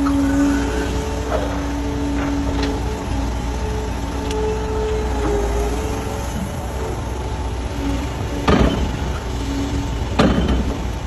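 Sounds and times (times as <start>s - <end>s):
excavator engine rumble: 0.0s - 11.0s
hydraulic whine: 0.0s - 11.0s.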